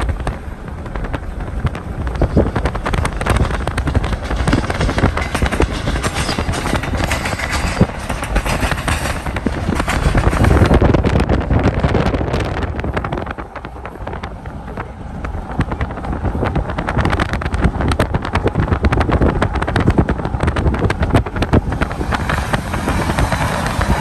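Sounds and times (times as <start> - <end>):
car road rumble: 0.0 - 24.0
wind buffeting microphone: 0.0 - 24.0.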